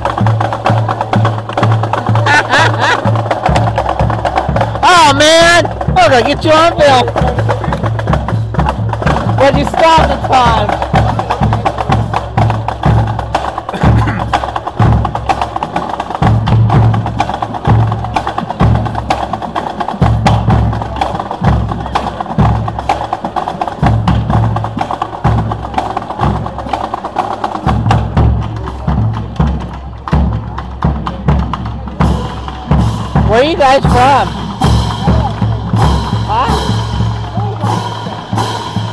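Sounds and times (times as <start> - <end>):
bass drum: 0.0 - 23.0, 27.6 - 38.9.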